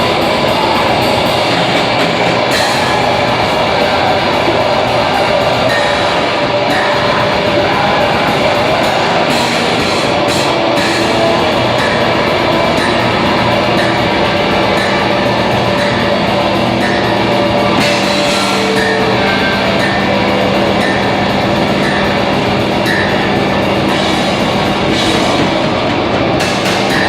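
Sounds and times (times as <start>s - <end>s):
metal band playing live: 0.0s - 27.0s.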